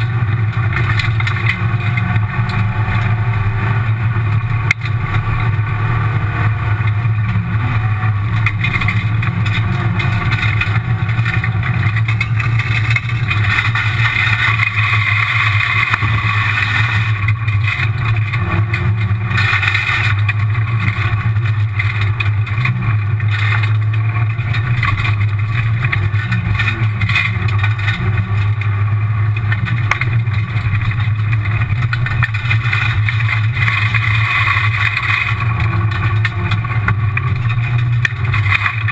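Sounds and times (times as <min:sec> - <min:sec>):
rally car engine under load: 0:00.0 - 0:38.9
tyres rushing over gravel: 0:00.0 - 0:38.9.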